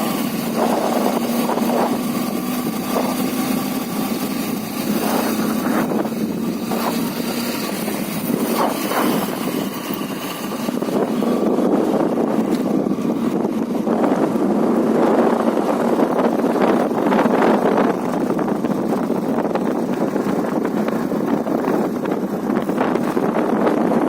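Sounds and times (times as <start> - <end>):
motorcycle engine cruising: 0.0 - 24.0
wind buffeting microphone: 0.0 - 24.0.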